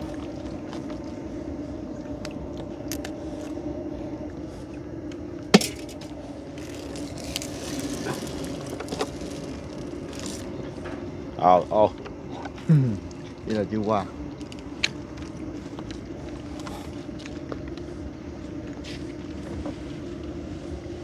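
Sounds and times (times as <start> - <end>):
small boat engine humming: 0.0 - 21.0.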